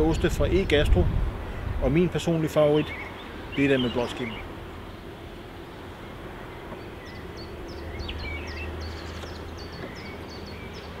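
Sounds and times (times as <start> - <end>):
low outdoor hum: 0.0 - 11.0
small birds chirping: 0.0 - 11.0.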